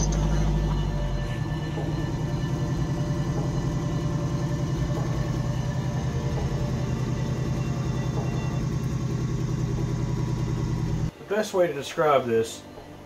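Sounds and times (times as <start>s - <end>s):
car engine idling: 0.0s - 11.1s.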